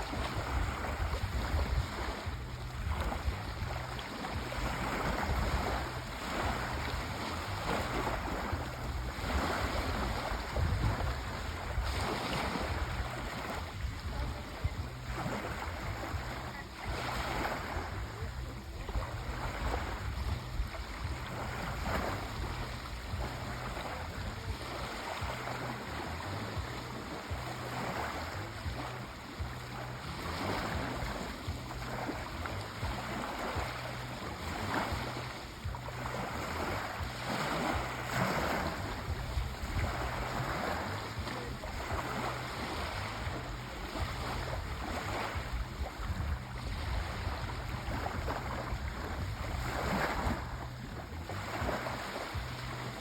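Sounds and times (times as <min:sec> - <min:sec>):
low rumble of surf: 0:00.0 - 0:53.0
sea waves washing onto shore: 0:00.0 - 0:53.0.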